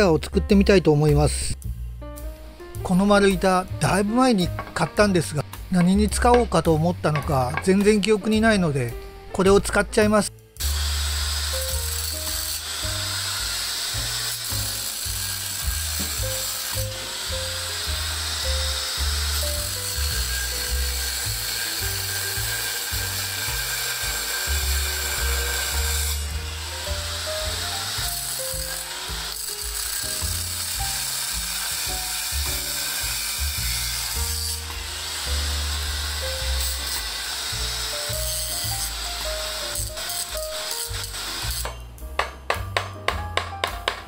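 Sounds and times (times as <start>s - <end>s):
angle grinder cutting metal: 3.0s - 8.6s, 10.6s - 41.9s.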